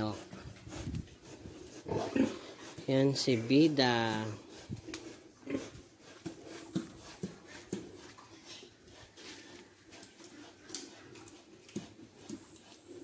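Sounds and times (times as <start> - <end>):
pigs grunting softly: 0.0 - 13.0.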